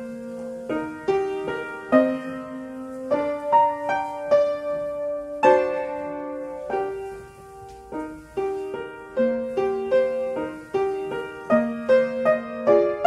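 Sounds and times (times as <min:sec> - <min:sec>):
piano chords and notes: 0:00.0 - 0:13.0.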